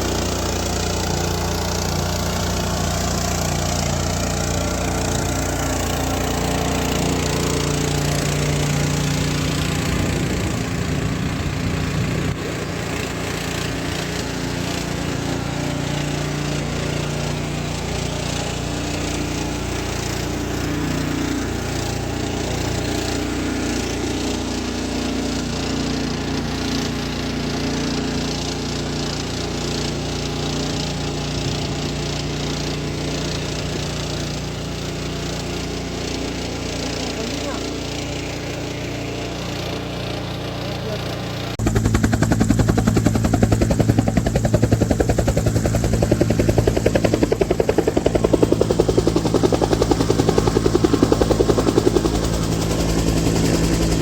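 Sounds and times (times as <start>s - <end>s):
small engine driving a pump: 0.0s - 54.0s.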